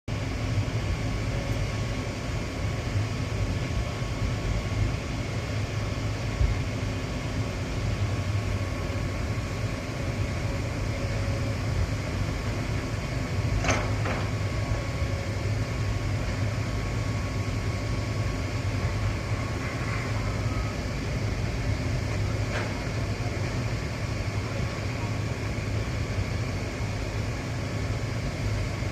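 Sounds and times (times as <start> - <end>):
heavy equipment engine rumbling: 0.1 - 28.9.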